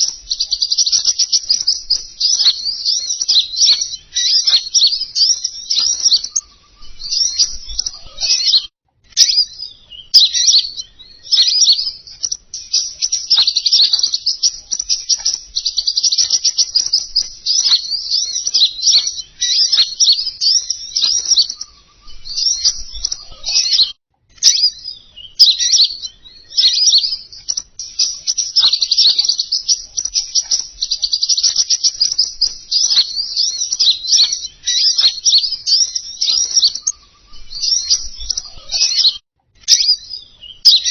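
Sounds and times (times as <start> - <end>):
songbird chattering song: 0.0 - 40.9.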